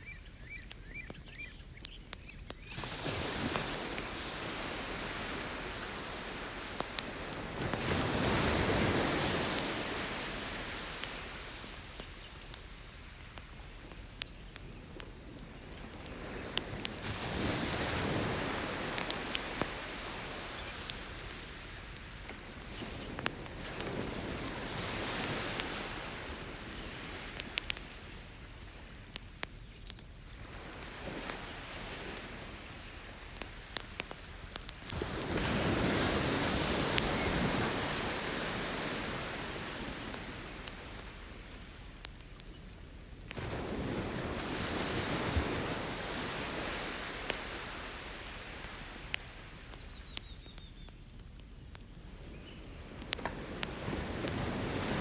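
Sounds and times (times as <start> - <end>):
campfire crackling: 0.0 - 55.0
ocean waves surging onto beach: 2.7 - 13.5, 15.3 - 28.3, 30.4 - 42.0, 43.2 - 49.8, 52.9 - 55.0.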